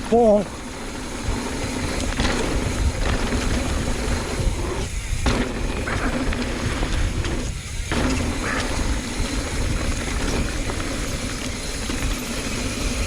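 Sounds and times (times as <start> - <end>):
bike knocks and rattles: 0.0 - 13.0
bike tyres rolling on dirt: 0.0 - 13.0
wind rumbling on microphone: 0.0 - 13.0.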